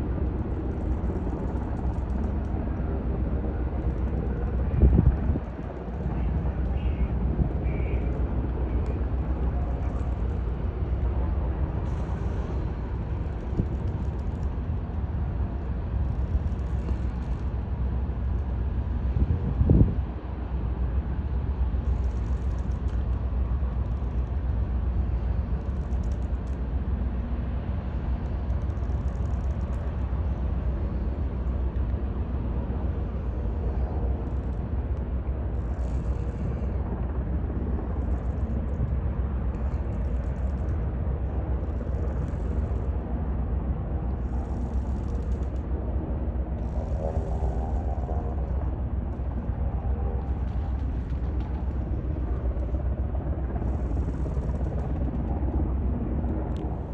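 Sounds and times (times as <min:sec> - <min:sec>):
ship rumble: 0:00.1 - 0:56.9.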